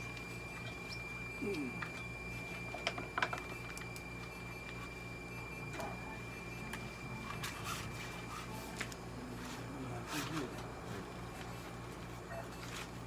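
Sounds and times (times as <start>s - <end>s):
low electrical hum: 0.0s - 13.0s
thin high whine: 0.0s - 13.0s.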